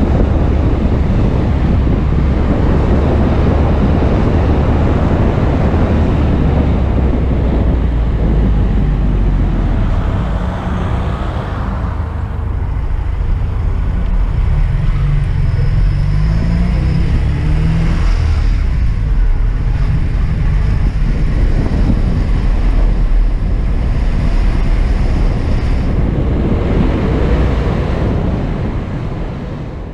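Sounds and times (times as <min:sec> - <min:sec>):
road and wind rumble: 0:00.0 - 0:29.9.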